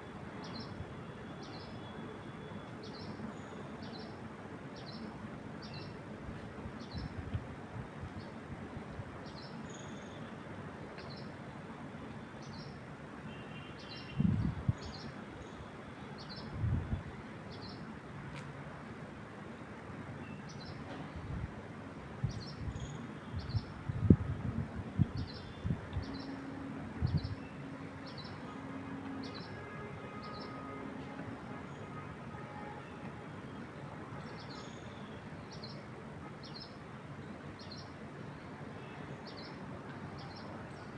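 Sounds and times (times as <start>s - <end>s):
wind in trees: 0.0s - 40.9s.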